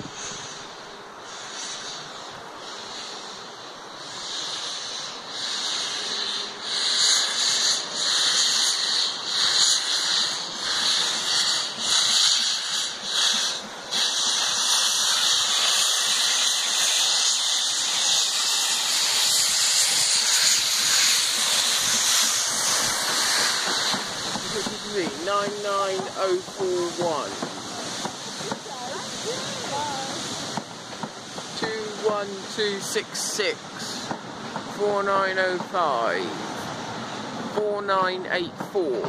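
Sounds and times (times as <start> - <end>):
rush of steam and hiss: 0.0 - 39.0
steam locomotive exhaust beat: 0.0 - 39.0.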